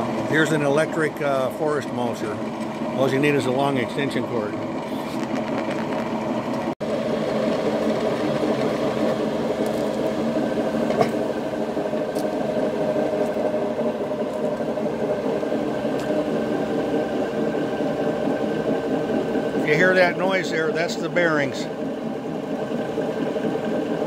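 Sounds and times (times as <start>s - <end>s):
mulcher drum humming: 0.0s - 24.0s.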